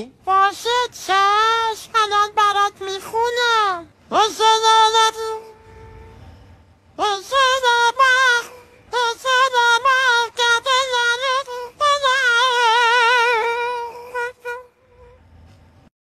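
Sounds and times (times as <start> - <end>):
high puppet voice singing: 0.0 - 5.9, 6.9 - 15.2.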